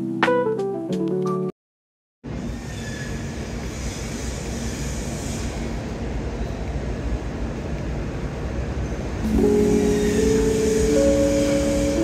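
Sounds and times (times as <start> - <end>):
city traffic rumble: 2.2 - 12.0.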